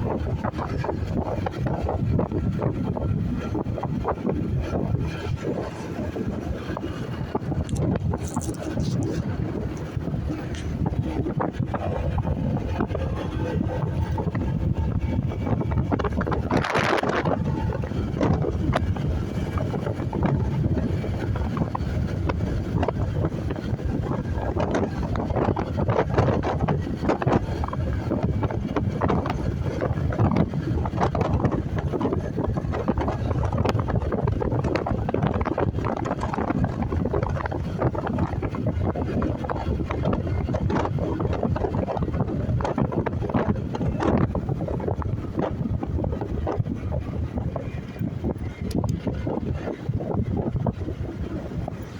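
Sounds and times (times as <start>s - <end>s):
road noise: 0.0s - 51.9s
wind buffeting microphone: 0.0s - 51.9s.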